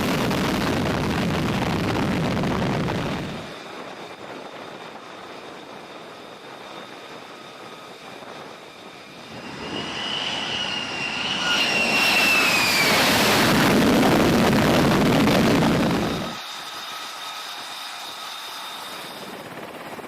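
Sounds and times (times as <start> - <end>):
jet engine roar: 0.0 - 20.0
jet engine whine: 0.0 - 20.0.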